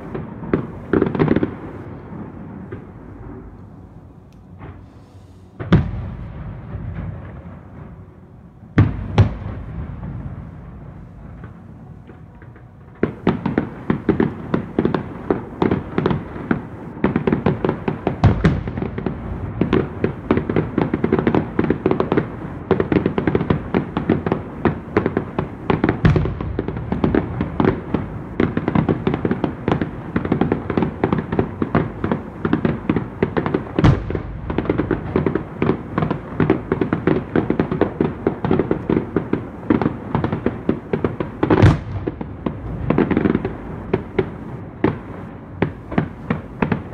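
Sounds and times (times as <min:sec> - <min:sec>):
fireworks bangs and crackle: 0:00.0 - 0:46.9
heavy fireworks booms: 0:00.0 - 0:46.9.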